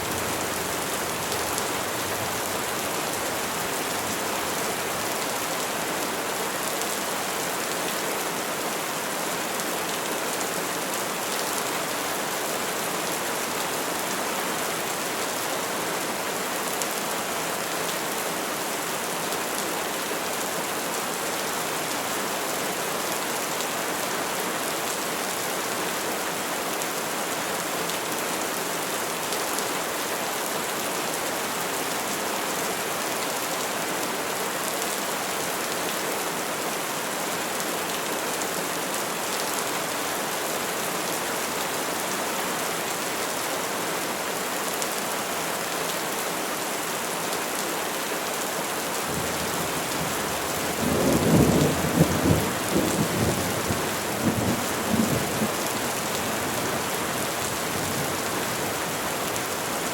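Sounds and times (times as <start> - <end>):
rain falling on foliage: 0.0 - 59.9.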